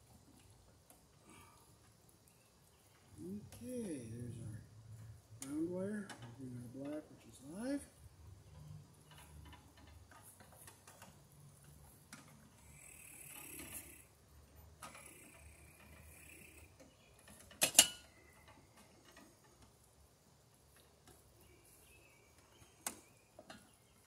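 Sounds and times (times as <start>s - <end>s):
wire rustling and ticking: 0.0s - 24.0s.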